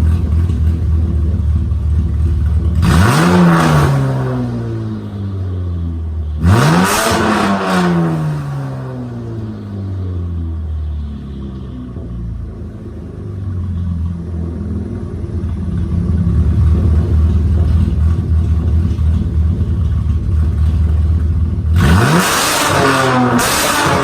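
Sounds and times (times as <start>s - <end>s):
car engine and exhaust running: 0.0s - 24.0s.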